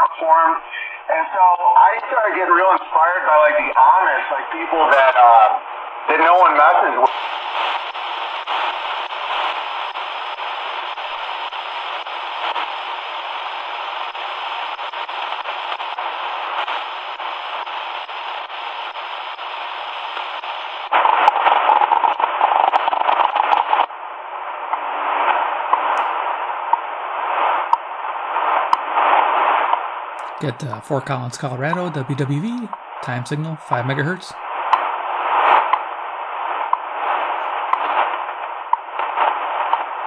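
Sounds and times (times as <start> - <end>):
radio static hiss: 0.0 - 23.9, 24.5 - 40.0.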